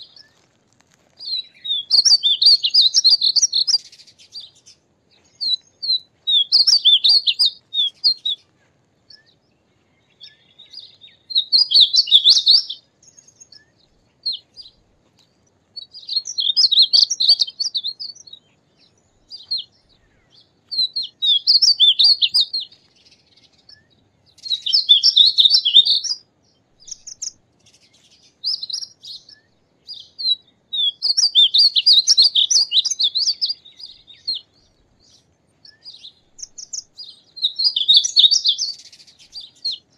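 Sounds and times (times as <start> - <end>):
bird warbling song: 0.0 - 0.5, 1.2 - 39.9.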